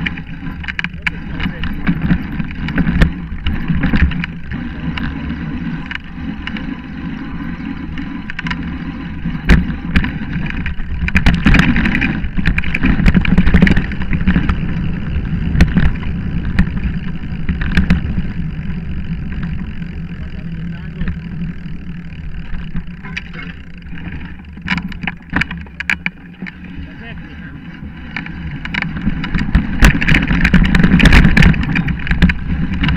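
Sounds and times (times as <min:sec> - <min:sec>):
bike knocking over bumps: 0:00.0 - 0:32.9
bike tyres rumbling over stones: 0:00.0 - 0:32.9.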